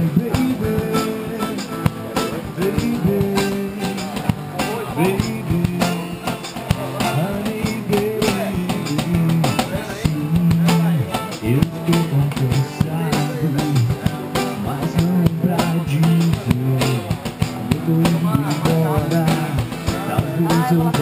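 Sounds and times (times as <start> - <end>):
bass line: 0.0 - 21.0
drum kit: 0.0 - 21.0
electric guitar: 0.0 - 21.0.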